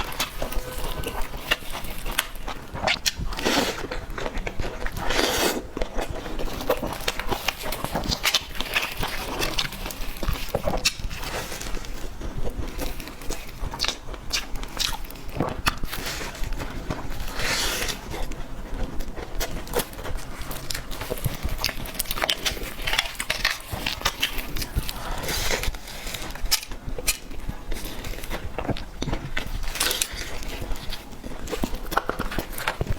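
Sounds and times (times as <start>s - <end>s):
wet chewing clicks and smacks: 0.0s - 17.2s, 18.1s - 32.9s.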